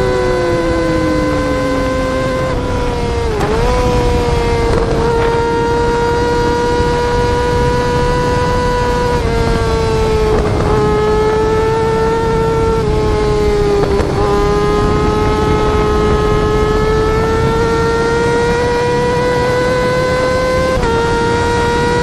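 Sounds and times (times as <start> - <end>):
motorcycle engine screaming: 0.0 - 22.0.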